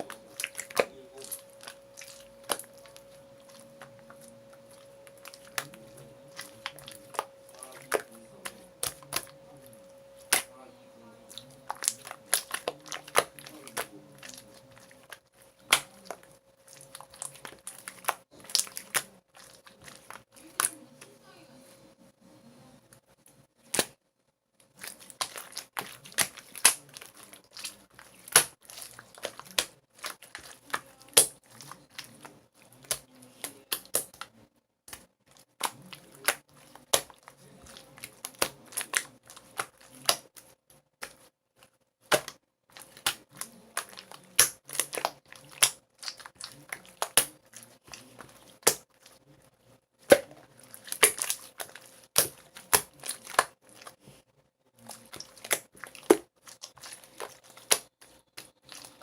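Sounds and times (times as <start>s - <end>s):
slime crackling and popping: 0.0s - 10.6s, 11.3s - 20.8s, 23.6s - 24.0s, 24.7s - 34.3s, 34.9s - 41.3s, 42.1s - 49.2s, 50.0s - 54.0s, 54.8s - 59.0s
faint steady hum: 0.0s - 59.0s.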